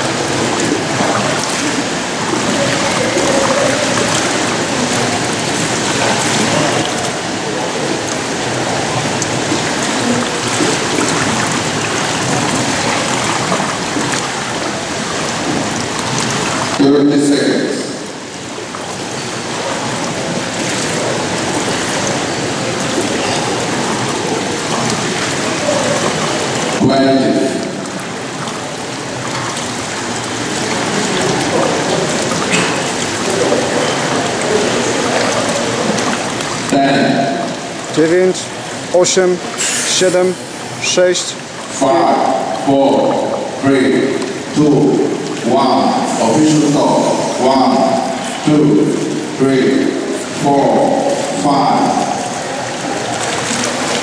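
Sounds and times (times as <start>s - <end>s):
small water splashes: 0.0s - 16.8s, 17.4s - 54.0s
rushing water in swimming pool: 0.0s - 54.0s.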